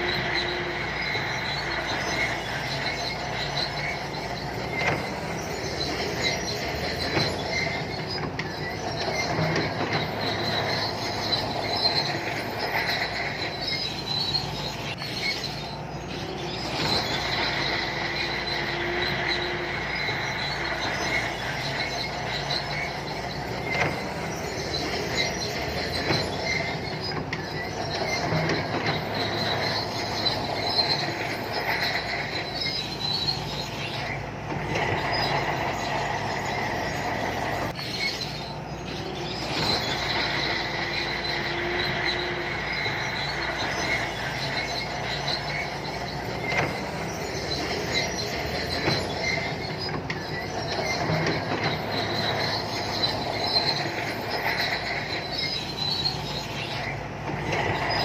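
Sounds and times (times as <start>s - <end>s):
bulldozer diesel engine running: 0.0s - 58.0s
steel tracks squealing and clanking: 0.0s - 58.0s.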